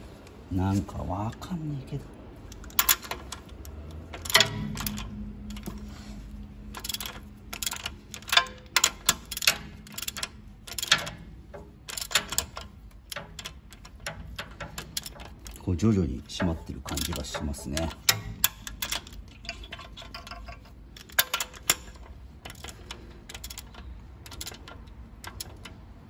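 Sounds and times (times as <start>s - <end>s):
metal socket clinking: 2.5s - 15.6s, 16.2s - 26.0s
ratchet wrench clicking: 2.5s - 26.0s.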